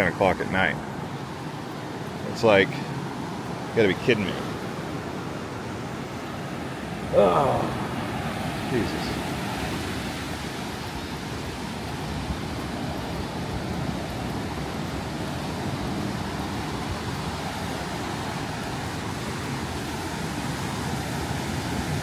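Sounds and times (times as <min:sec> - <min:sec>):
steady outdoor rushing noise: 0:00.0 - 0:22.0.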